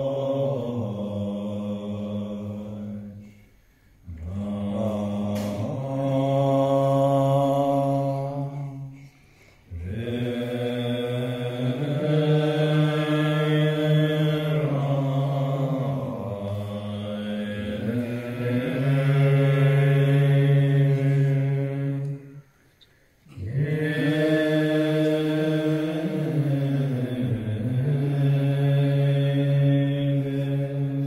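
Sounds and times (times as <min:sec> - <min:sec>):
monks chanting low notes: 0:00.0 - 0:31.0.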